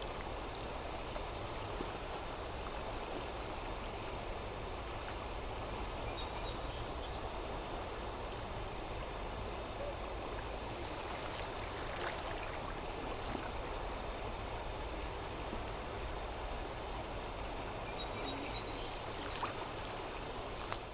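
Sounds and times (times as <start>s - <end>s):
river rushing: 0.0s - 20.9s.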